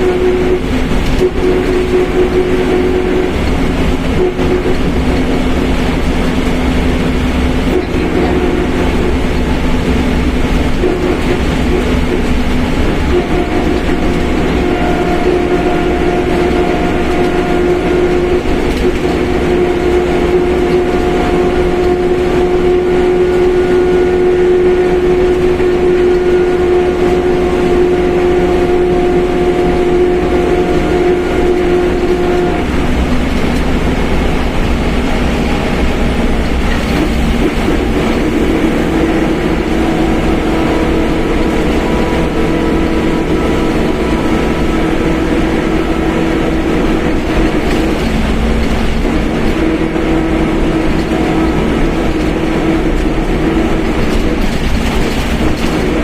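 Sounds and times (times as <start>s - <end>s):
bus differential whine: 0.0s - 56.0s
bus drivetrain noise: 0.0s - 56.0s.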